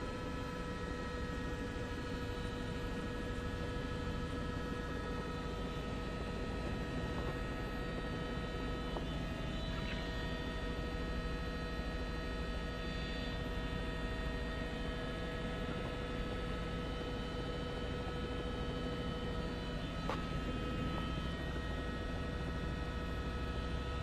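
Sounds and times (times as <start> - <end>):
helicopter cabin drone: 0.0 - 24.0.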